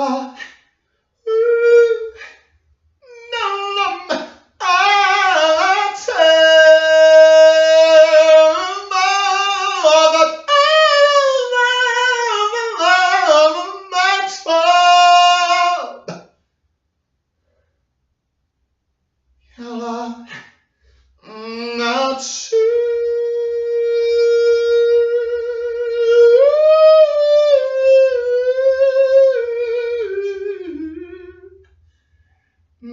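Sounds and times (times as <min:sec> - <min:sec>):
person singing without words: 0:00.0 - 0:16.2, 0:19.5 - 0:20.5, 0:21.2 - 0:31.7.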